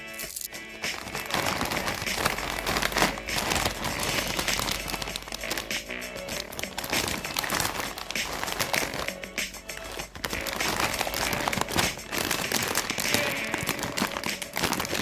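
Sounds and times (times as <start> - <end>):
background music: 0.0 - 15.0
plastic wrapper crinkling: 0.0 - 15.0.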